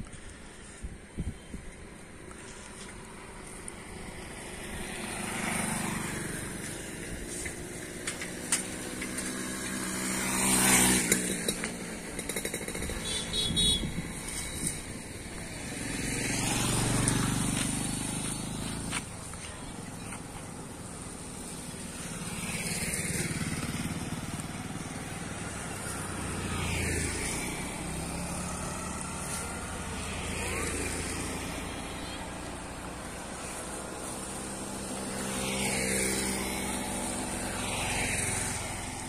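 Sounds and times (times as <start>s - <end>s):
road traffic passing: 0.0s - 39.0s
motorcycle passing close: 0.1s - 39.0s.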